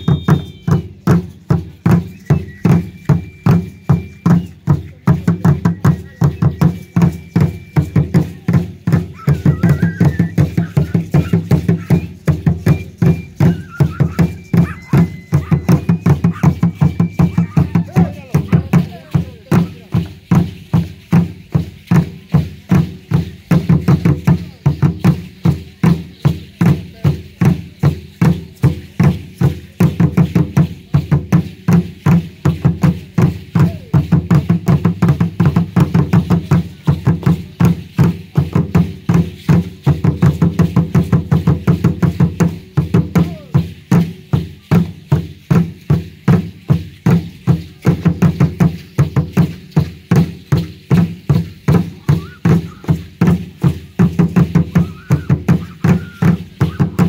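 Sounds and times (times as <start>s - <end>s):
large drum beating rhythm: 0.0s - 57.0s.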